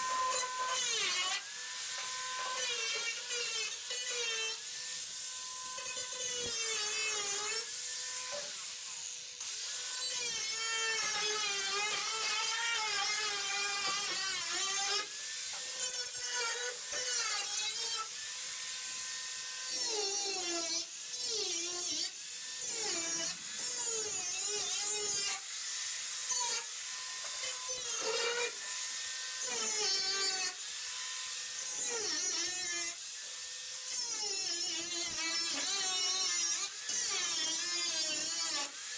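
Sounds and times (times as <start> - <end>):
power tool cutting sheet metal: 0.0 - 38.9.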